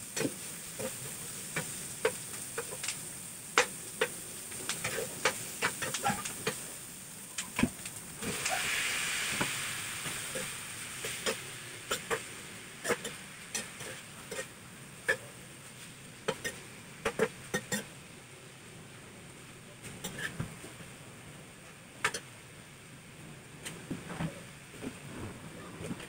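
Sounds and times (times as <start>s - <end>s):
chicken sizzling in hot oil: 0.0s - 22.7s.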